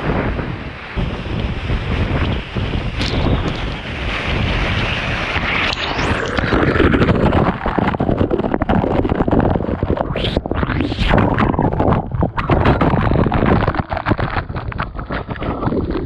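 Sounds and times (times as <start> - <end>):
microphone crackling and rubbing: 1.0 - 16.0.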